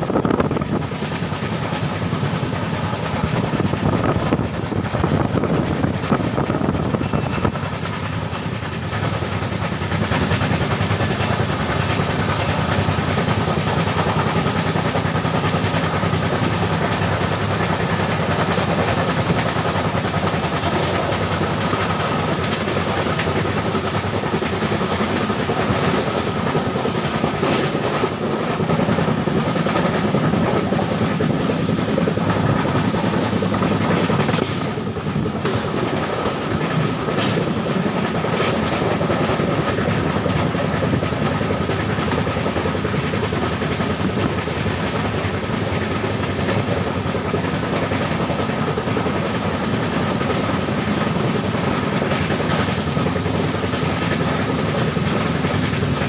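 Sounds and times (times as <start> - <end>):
train wheels rumbling on rails: 0.0 - 56.0
wheels clickety-clack: 0.0 - 56.0.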